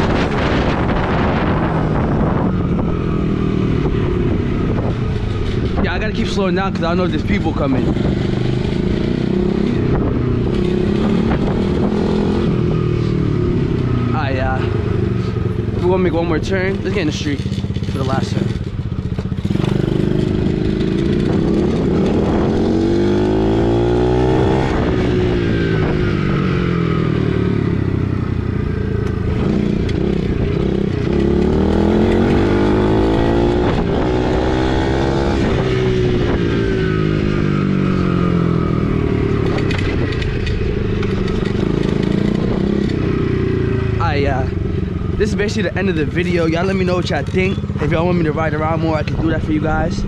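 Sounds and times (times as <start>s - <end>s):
dirt bike engine revving: 0.0s - 28.0s, 29.0s - 50.0s.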